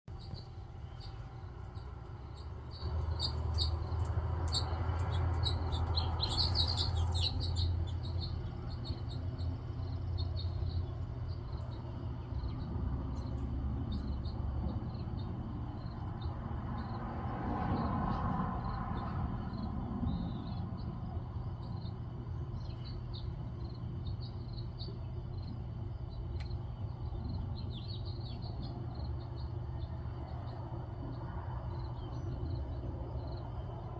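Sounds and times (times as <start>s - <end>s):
small birds chirping: 0.1s - 33.9s
steady low hum: 0.1s - 33.9s.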